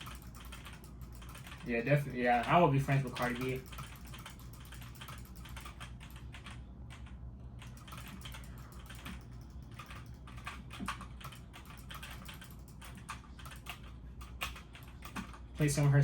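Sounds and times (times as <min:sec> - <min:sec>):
steady low hum: 0:00.0 - 0:16.0
keyboard typing clicks: 0:02.3 - 0:15.9.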